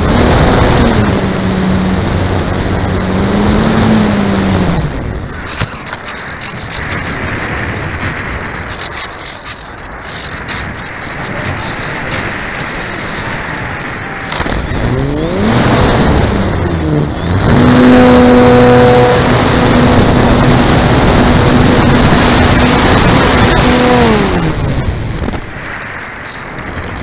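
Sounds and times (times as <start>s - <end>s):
propeller motor whine: 0.0s - 10.1s, 10.8s - 27.0s
wind rushing over microphone: 0.0s - 27.0s.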